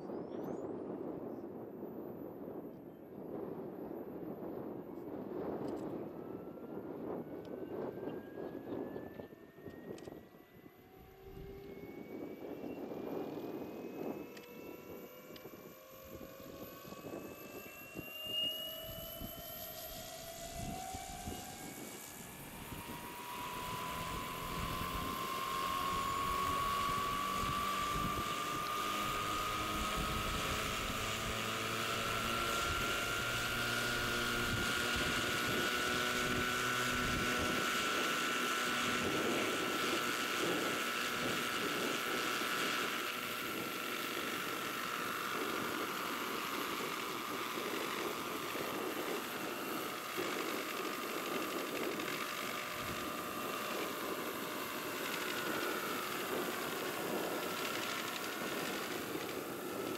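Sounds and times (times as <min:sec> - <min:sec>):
model helicopter motor whine: 0:00.0 - 0:59.9
rotor hum: 0:03.2 - 0:59.9.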